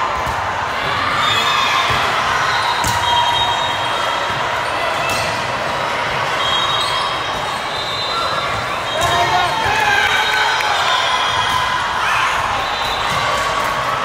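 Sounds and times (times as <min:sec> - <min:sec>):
spectator chatter: 0:00.0 - 0:14.0.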